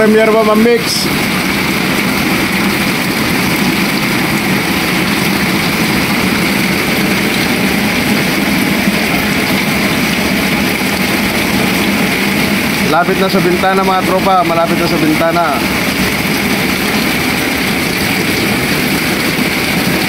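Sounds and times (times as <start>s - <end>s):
heavy rain on water: 0.0s - 20.0s.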